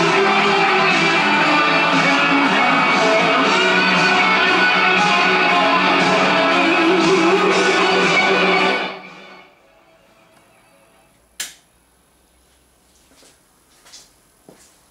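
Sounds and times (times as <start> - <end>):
music from radio loudspeakers: 0.0 - 14.9.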